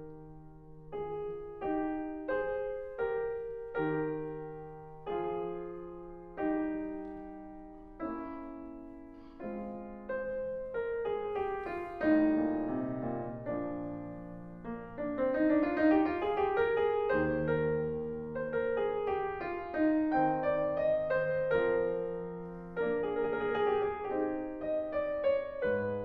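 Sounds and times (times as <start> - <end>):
slow piano music: 0.0 - 26.0.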